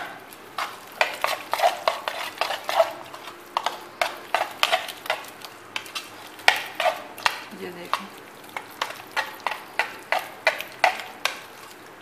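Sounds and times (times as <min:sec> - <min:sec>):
wet batter stirring by hand: 0:00.0 - 0:12.0.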